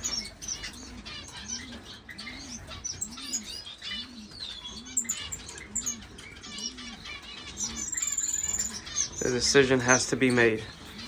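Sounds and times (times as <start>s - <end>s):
finches chirping and twittering: 0.0s - 11.0s.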